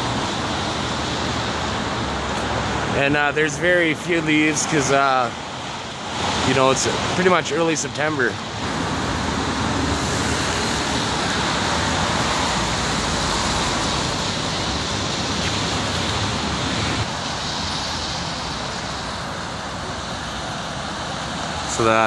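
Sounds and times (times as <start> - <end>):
road traffic hiss: 0.0 - 22.0.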